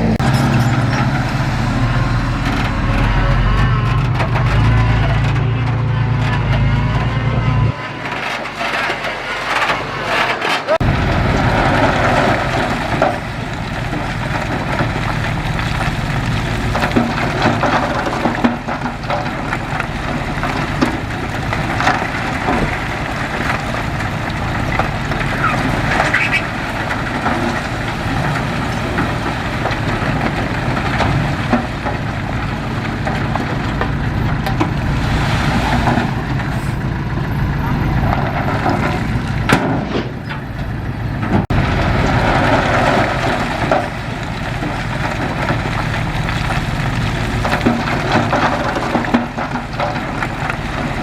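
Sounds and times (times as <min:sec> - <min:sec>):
heavy diesel machinery engine hum: 0:00.0 - 0:51.0
metal clanks and knocks: 0:02.3 - 0:51.0.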